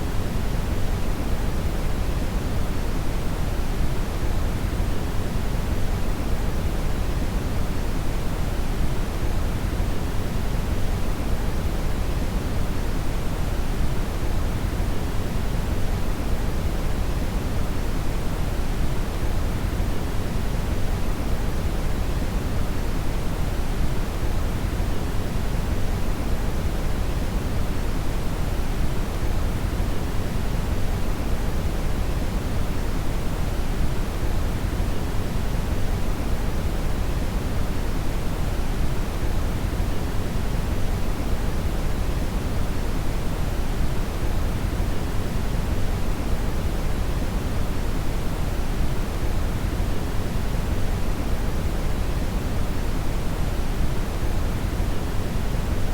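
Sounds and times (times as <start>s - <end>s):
brown noise hiss: 0.0s - 55.9s.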